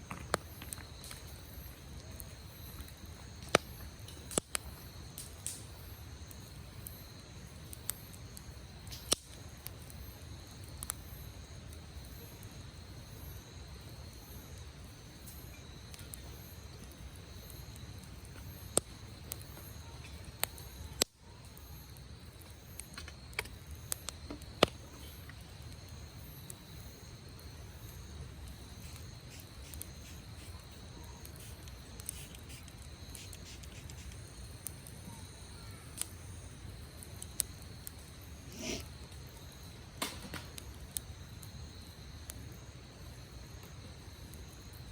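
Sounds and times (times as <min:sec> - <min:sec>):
campfire crackling and popping: 0:00.0 - 0:44.9
low rumble of burning: 0:00.0 - 0:44.9.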